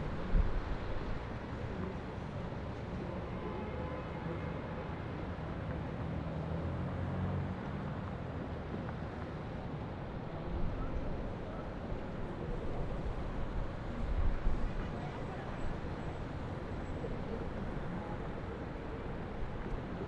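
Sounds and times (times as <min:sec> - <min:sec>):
city traffic rumble: 0:00.0 - 0:20.0.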